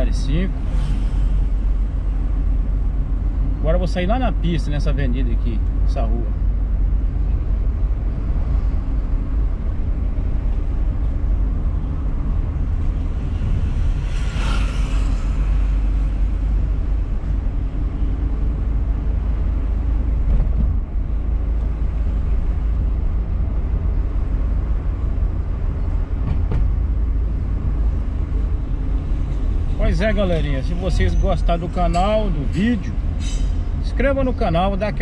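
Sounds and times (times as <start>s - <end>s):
car engine rumble: 0.0s - 35.0s
tyres on road: 0.0s - 35.0s.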